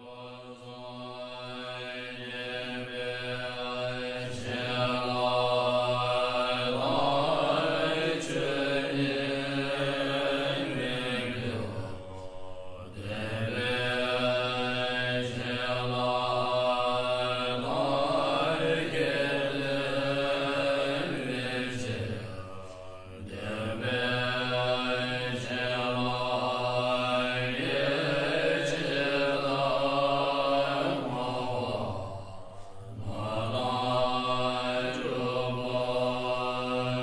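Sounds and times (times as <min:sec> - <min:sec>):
chanted mantra: 0:00.0 - 0:37.0.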